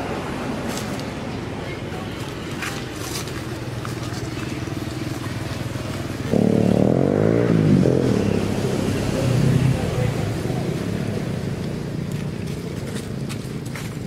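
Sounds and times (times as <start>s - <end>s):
vehicle engine running: 2.1s - 14.0s.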